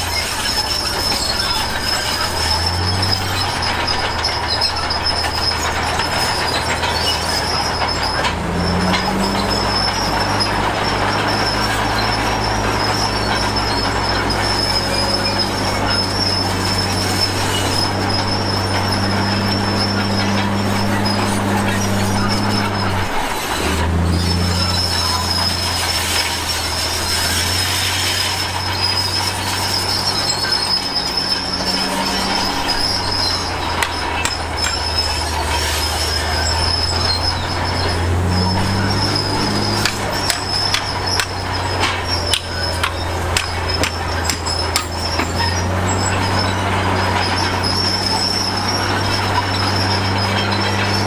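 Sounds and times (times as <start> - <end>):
clicks and clanks: 0.0 - 51.0
heavy diesel machinery running: 0.0 - 51.0
high continuous squeal: 0.0 - 51.0.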